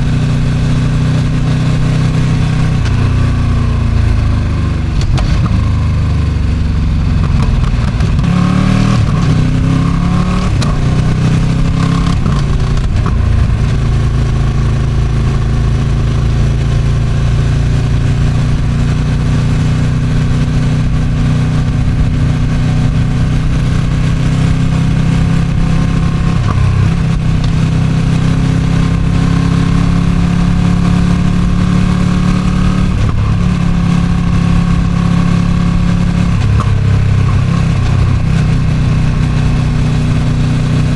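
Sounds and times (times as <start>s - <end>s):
motorcycle engine at speed: 0.0s - 40.9s
wind noise on microphone: 0.0s - 40.9s.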